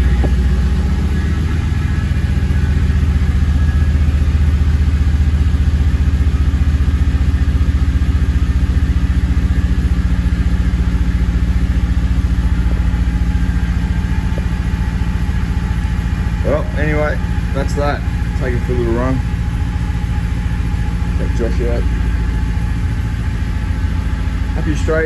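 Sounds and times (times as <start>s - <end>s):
engine idling with deep throb: 0.0s - 25.0s.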